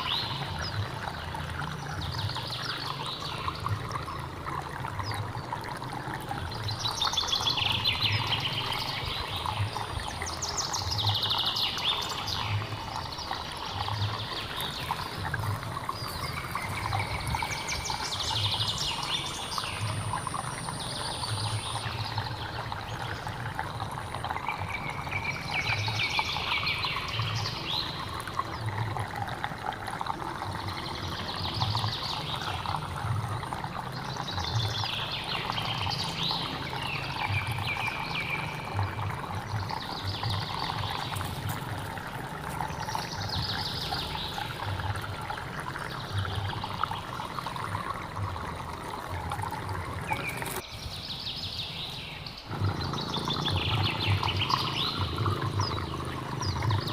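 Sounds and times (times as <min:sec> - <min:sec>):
stream trickling and splashing: 0:00.0 - 0:56.9.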